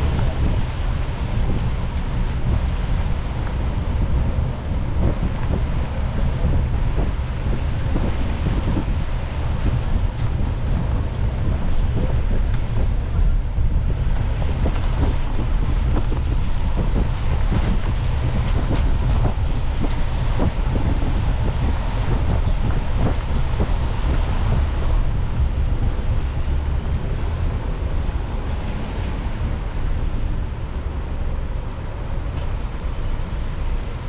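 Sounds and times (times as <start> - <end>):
road and wind rumble: 0.0 - 34.0.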